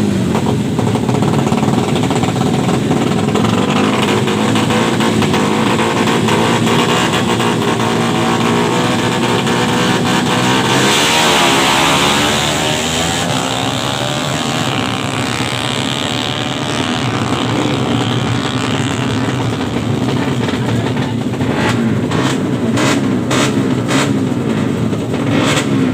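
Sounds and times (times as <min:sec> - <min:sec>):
motorcycle engine at high revs: 0:00.0 - 0:25.9.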